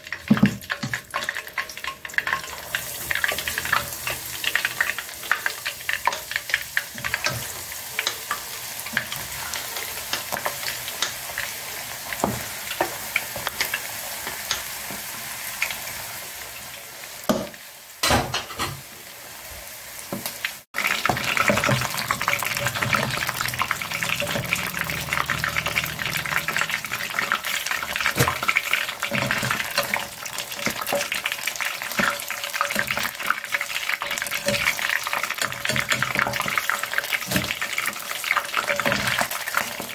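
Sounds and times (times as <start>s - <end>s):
oil sizzling with crackling pops: 0.0s - 18.8s, 20.0s - 39.9s.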